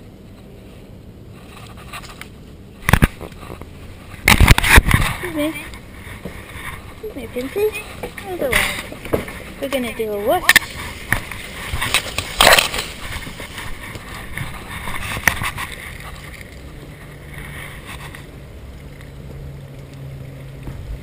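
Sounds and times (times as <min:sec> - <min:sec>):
rubbing and scraping on microphone: 0:00.3 - 0:18.4.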